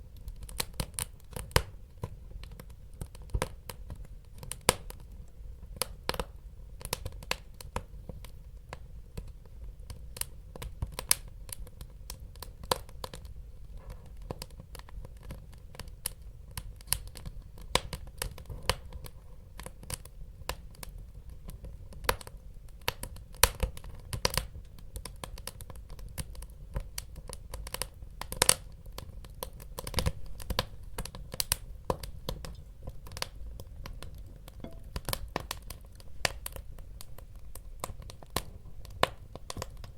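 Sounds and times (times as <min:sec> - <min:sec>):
wood fire burning in fireplace: 0:00.0 - 0:39.9.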